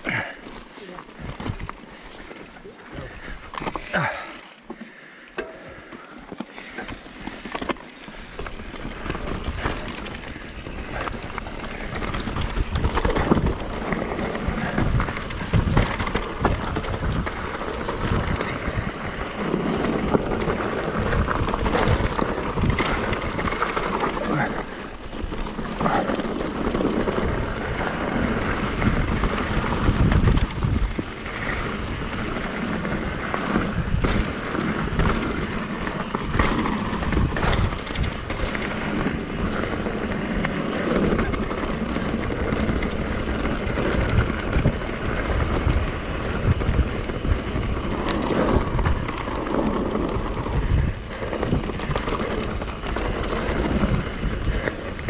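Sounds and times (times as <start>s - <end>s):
tyre noise on dirt: 0.0s - 55.0s
bike knocks and rattles: 0.1s - 55.0s
wind rushing over microphone: 6.9s - 55.0s.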